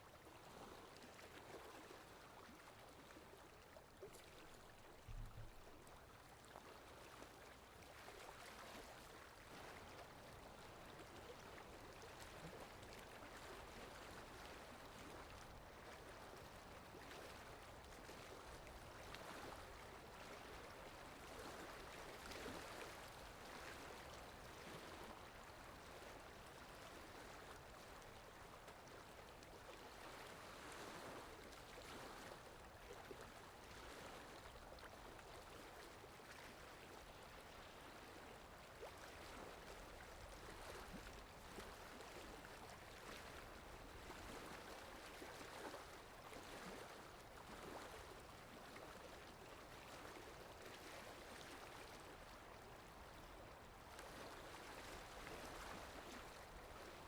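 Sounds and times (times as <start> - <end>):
stream water flowing: 0.1 - 57.0.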